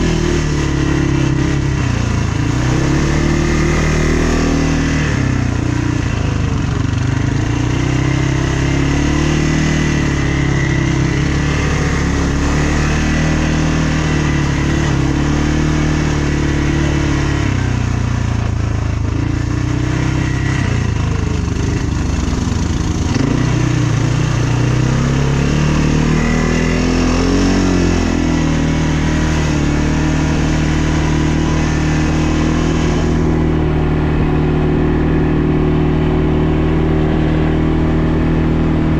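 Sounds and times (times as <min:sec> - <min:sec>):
atv engine running: 0:00.0 - 0:38.9
rush of riding noise: 0:00.0 - 0:38.9.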